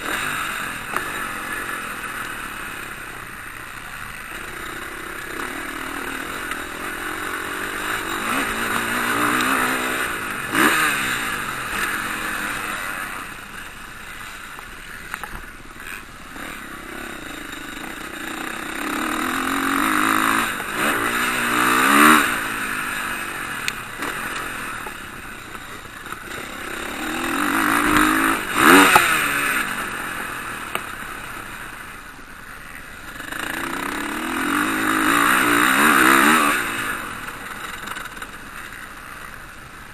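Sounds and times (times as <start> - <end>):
motocross bikes racing past: 0.0 - 39.9.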